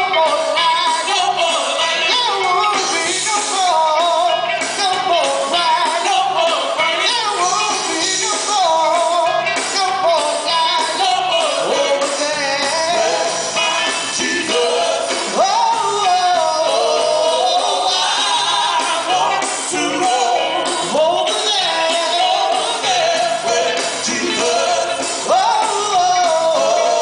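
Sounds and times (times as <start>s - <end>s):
gospel group singing: 0.0s - 27.0s
instrumental accompaniment: 0.0s - 27.0s.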